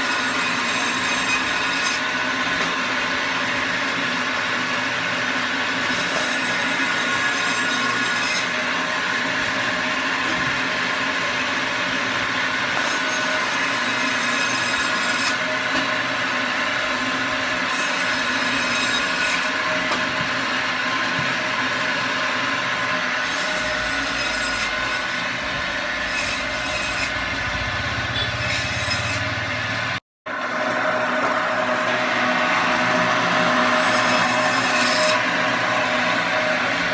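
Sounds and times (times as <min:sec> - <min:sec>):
band saw cutting frozen fish: 0:00.0 - 0:29.8, 0:30.5 - 0:36.9.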